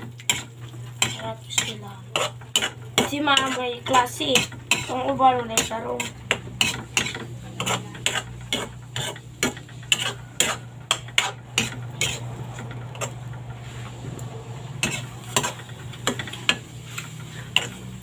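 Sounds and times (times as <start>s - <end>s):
metal spatula scraping a wok: 0.0s - 18.0s.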